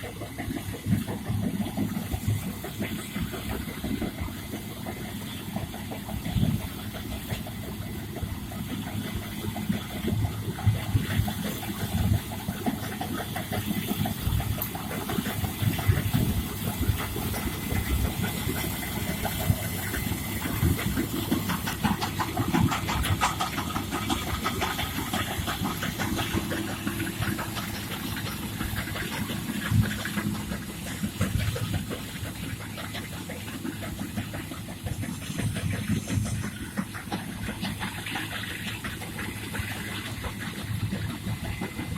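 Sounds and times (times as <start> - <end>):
farm machinery engine running: 0.0 - 41.9.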